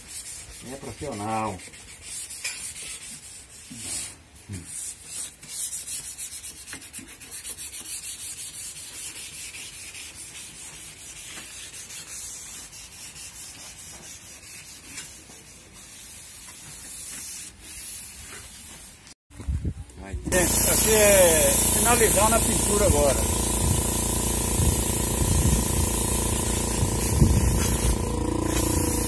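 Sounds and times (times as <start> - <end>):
sanding block scraping: 0.0 - 19.1, 20.3 - 29.0.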